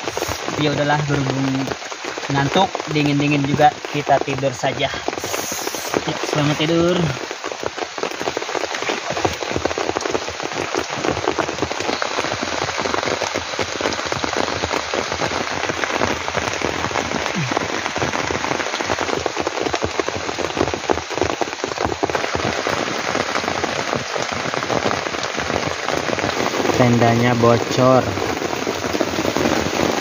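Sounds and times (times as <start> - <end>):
heavy rain on a tent: 0.0 - 30.0.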